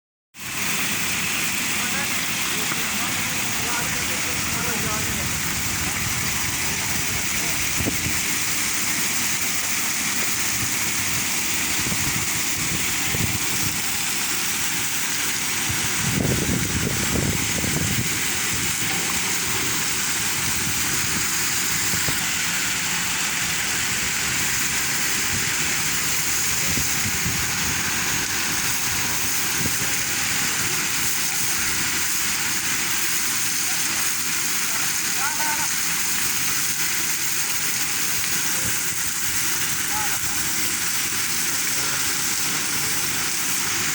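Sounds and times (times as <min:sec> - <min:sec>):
water spraying from leaking pipe: 0:00.4 - 0:43.9.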